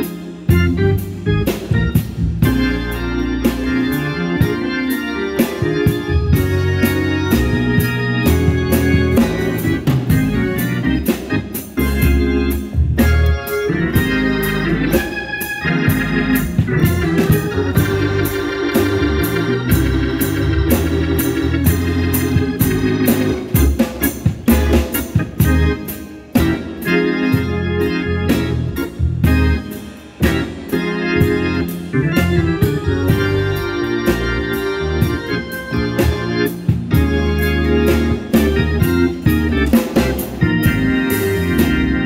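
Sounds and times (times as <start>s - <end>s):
organ music: 0.0s - 42.0s.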